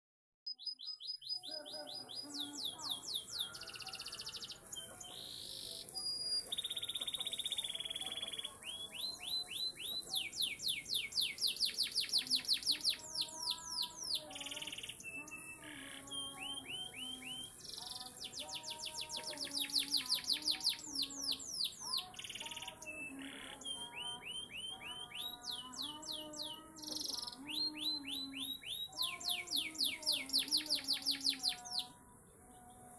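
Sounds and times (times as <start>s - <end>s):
canary singing trills: 0.5s - 32.9s.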